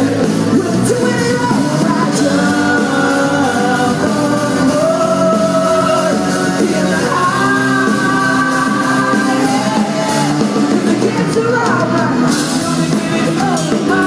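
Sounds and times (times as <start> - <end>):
live rock band playing: 0.0 - 14.0
melodic lead line: 0.0 - 14.0.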